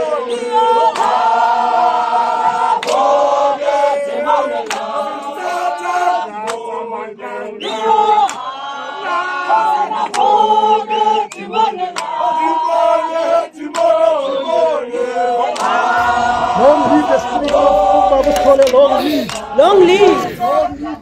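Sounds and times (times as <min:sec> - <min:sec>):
group singing in unison: 0:00.0 - 0:21.0.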